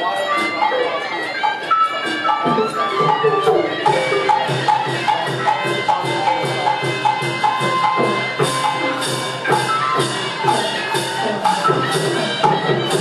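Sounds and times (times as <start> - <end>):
bright struck percussion beat: 0.0 - 13.0
pitched percussion notes: 0.0 - 13.0.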